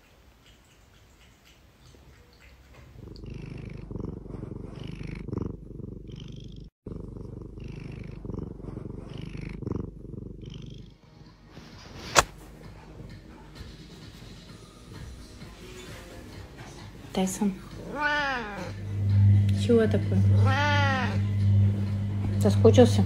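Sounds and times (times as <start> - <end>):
cat purring: 1.8 - 12.3, 13.6 - 23.0.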